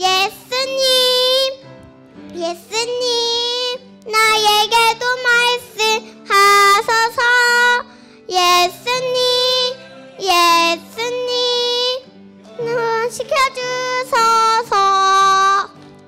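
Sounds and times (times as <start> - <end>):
girl singing into a microphone: 0.0 - 1.6, 2.3 - 15.8.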